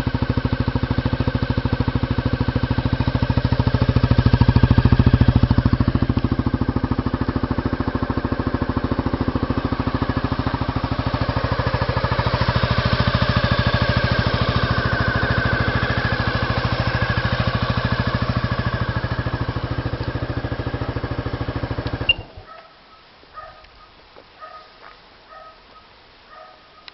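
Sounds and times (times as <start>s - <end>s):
scooter engine idling: 0.0s - 22.6s.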